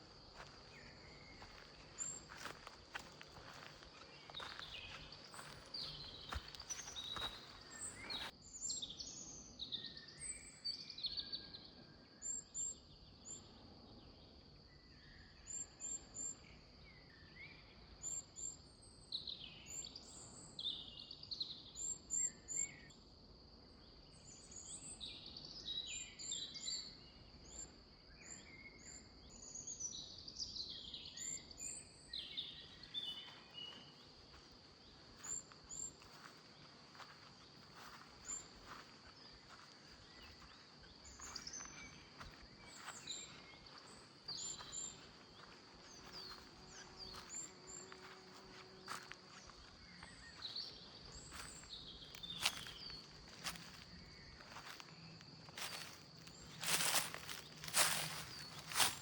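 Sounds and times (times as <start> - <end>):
birds singing: 0.0 - 13.5, 24.3 - 59.0.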